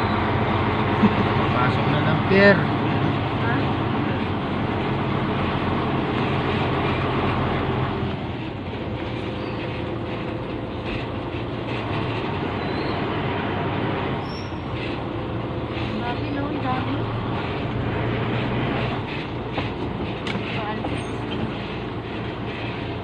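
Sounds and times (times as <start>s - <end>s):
road rumble: 0.0s - 23.0s
truck engine running: 0.0s - 23.0s.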